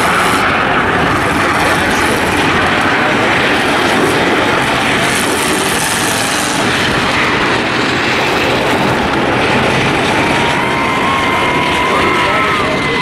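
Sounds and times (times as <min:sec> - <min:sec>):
race car engines din: 0:00.0 - 0:13.0.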